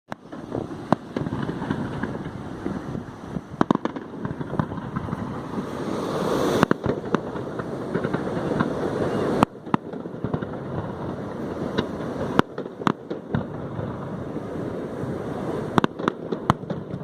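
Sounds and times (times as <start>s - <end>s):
firework shells bursting: 0.1s - 2.9s, 3.5s - 14.0s, 15.7s - 17.0s
fireworks crackling: 0.1s - 17.0s
firework hiss: 0.2s - 17.0s.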